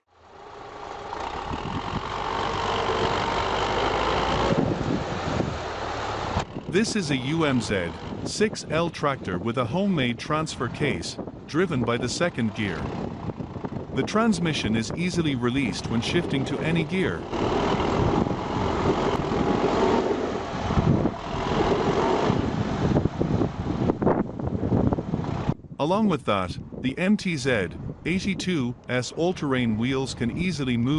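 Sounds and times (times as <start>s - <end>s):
heavy vehicle engine rumbling: 0.1s - 30.9s.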